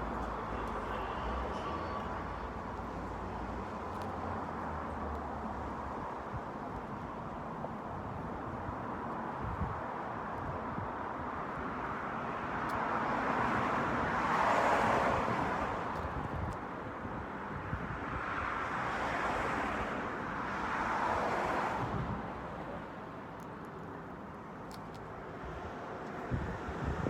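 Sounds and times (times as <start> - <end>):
cars passing: 0.0 - 16.5, 17.8 - 27.0.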